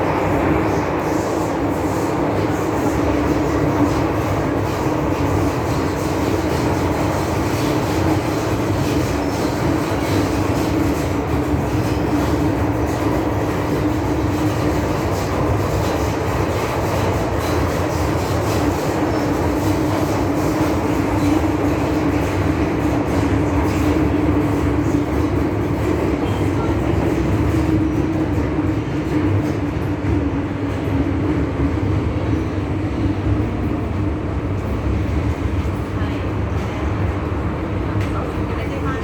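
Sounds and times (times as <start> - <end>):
steady train hum: 0.0 - 39.0
train wheels rumbling on rail: 0.0 - 39.0.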